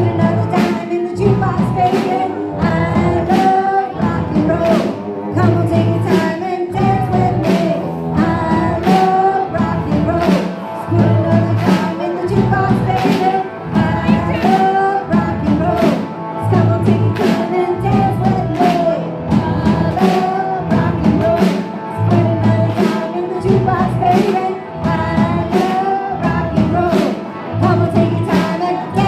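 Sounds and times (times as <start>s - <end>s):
bass guitar: 0.0s - 29.0s
drum kit beat: 0.0s - 29.0s
electric guitar: 0.0s - 29.0s
person singing: 0.0s - 29.0s.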